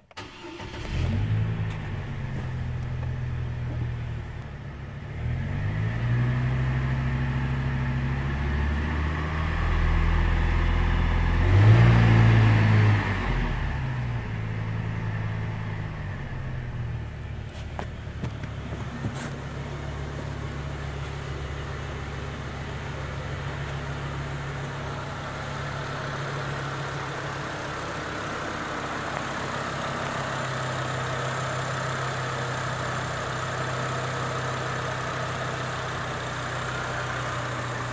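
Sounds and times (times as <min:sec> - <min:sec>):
truck engine starting and revving: 0:00.1 - 0:04.4, 0:05.1 - 0:35.1.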